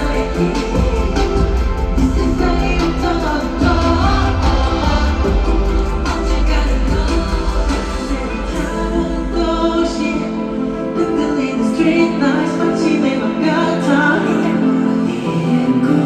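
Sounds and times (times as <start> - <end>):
solo vocalist singing with vibrato: 0.0 - 16.0.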